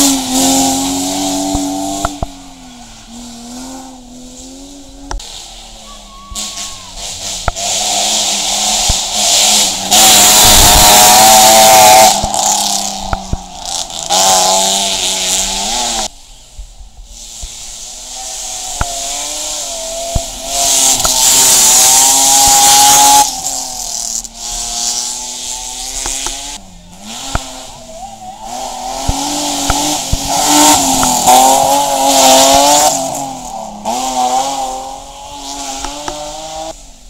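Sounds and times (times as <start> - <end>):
engines revving hard: 0.0 - 16.1, 17.1 - 37.0
rally cars passing at speed: 0.0 - 16.2, 17.1 - 37.0.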